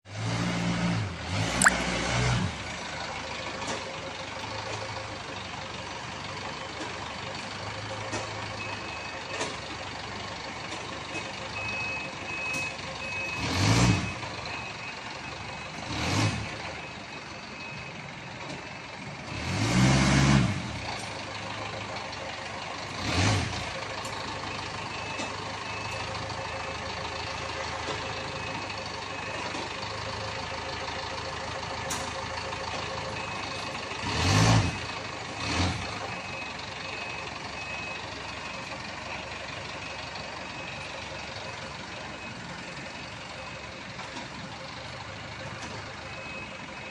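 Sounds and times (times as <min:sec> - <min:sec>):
truck engine idling: 0:02.6 - 0:13.4, 0:14.1 - 0:19.3, 0:20.6 - 0:46.9.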